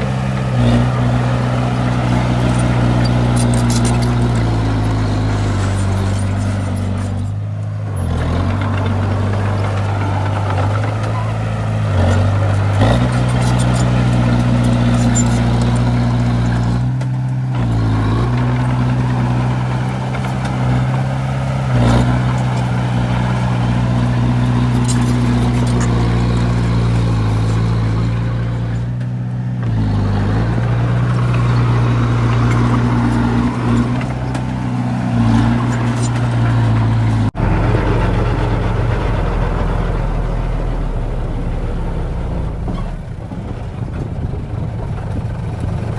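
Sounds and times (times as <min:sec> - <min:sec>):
diesel machinery running: 0:00.0 - 0:45.9.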